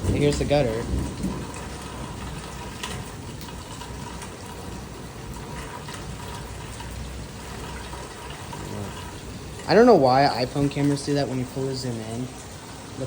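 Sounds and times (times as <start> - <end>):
heavy rain: 0.0 - 13.0
water running off gutter: 0.0 - 13.0.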